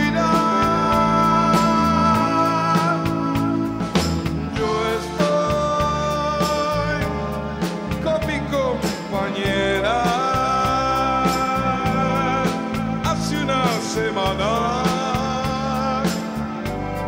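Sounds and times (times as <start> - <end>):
live rock band playing: 0.0 - 17.0
sliding lead melody: 0.0 - 17.0.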